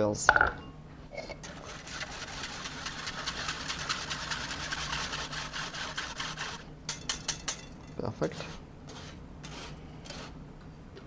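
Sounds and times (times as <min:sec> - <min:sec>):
whisk scraping in metal sieve: 0:01.4 - 0:10.4.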